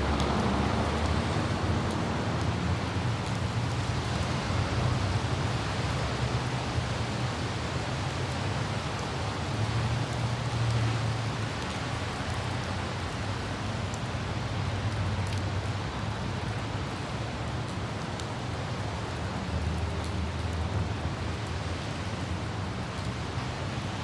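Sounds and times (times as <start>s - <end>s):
car driving on wet road: 0.0s - 24.0s.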